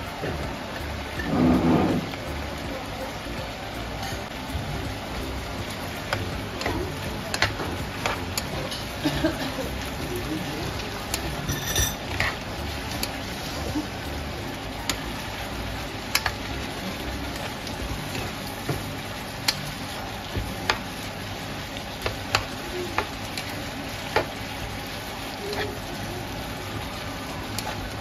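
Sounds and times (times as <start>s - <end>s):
meat and onions sizzling in pan: 0.0s - 28.0s.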